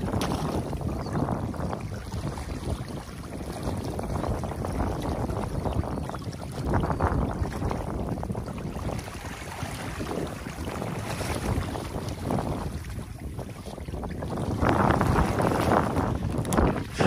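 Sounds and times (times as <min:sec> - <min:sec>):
water rushing and churning: 0:00.0 - 0:17.0.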